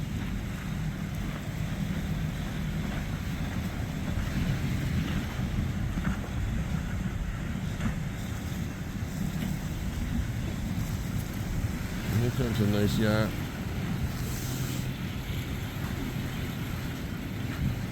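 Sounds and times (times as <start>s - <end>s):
boat engines rumbling: 0.0s - 17.9s
wind buffeting microphone: 0.0s - 17.9s.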